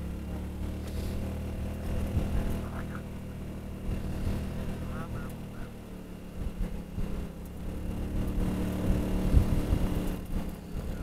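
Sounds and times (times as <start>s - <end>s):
scooter engine running: 0.0s - 11.0s
wind rumbling on microphone: 0.9s - 3.0s, 3.8s - 11.0s.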